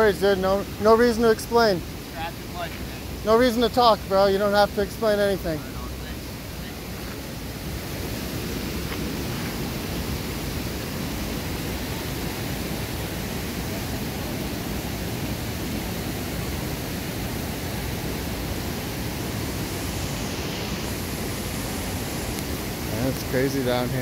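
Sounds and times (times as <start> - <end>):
creek water rushing: 0.0 - 24.0.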